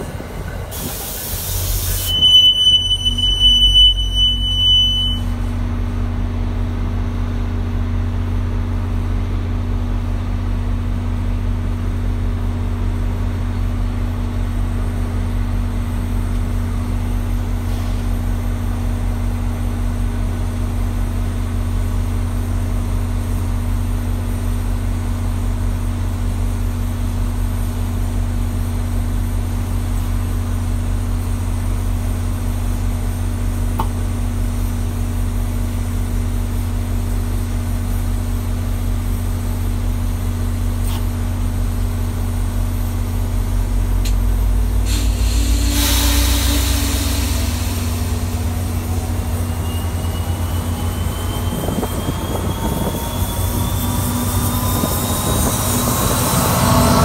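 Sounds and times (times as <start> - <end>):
diesel locomotive idling: 0.0 - 57.0.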